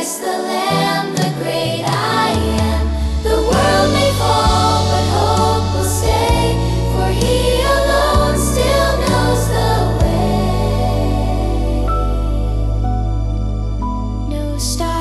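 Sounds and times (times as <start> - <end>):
worship music with choir vocals: 0.0 - 15.0.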